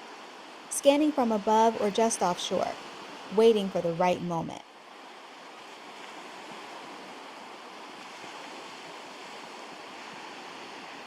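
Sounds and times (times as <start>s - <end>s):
small waves washing onto shore: 0.0s - 3.6s, 4.7s - 11.0s.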